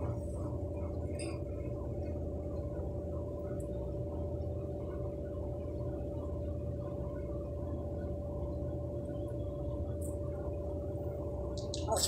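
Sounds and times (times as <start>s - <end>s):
machine hum with whine: 0.0s - 12.0s.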